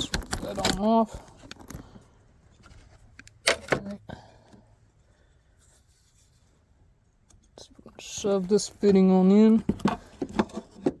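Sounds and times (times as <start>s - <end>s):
faint handling noise: 0.0s - 11.0s.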